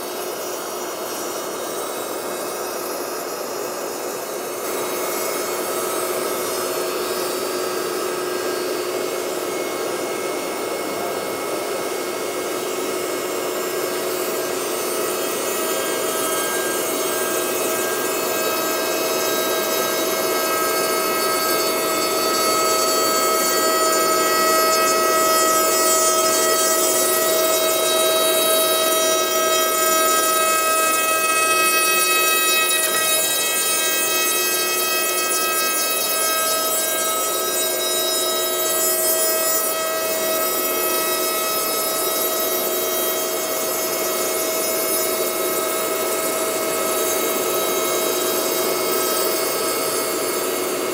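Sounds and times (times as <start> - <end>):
router bit cutting wood: 0.0 - 50.9
router spindle whine: 0.0 - 50.9.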